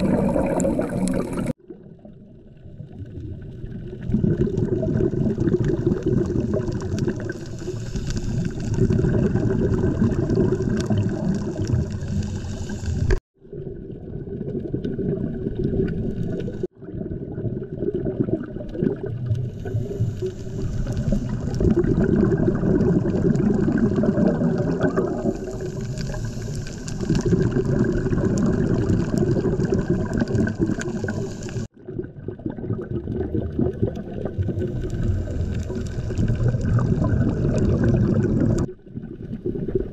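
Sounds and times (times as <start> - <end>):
muffled underwater rushing and gurgling: 0.0 - 39.9.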